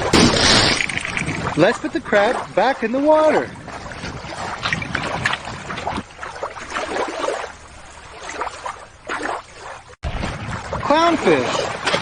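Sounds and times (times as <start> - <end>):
shallow water sloshing: 0.0 - 12.0.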